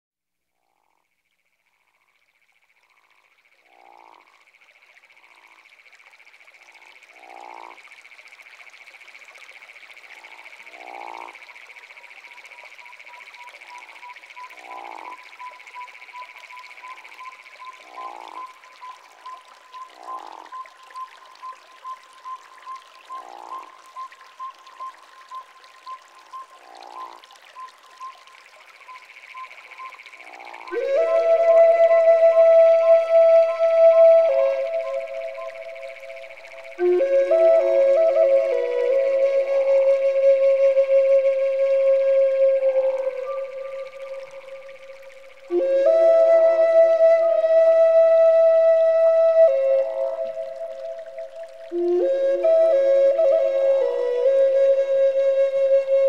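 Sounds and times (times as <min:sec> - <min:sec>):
frogs croaking: 0:00.4 - 0:54.4.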